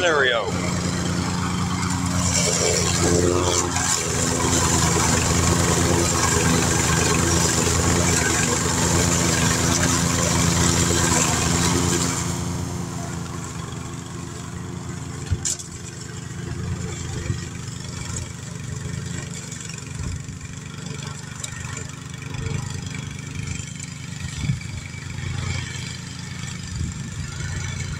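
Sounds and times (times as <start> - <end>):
lawn mower engine running: 0.0 - 27.9.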